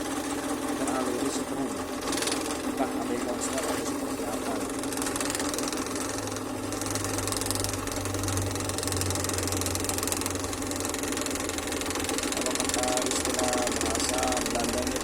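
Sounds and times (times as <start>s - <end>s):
scroll saw cutting wood: 0.0s - 15.0s.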